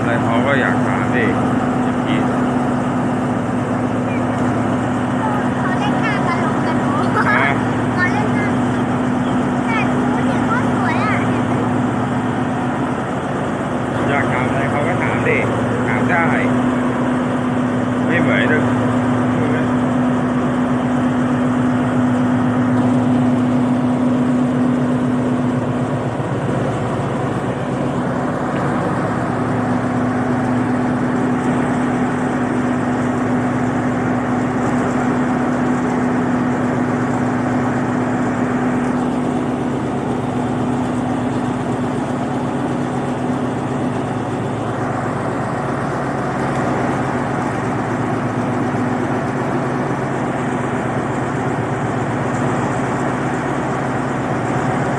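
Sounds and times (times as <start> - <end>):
locomotive engine idling: 0.0 - 54.9
steady hum: 0.0 - 54.9.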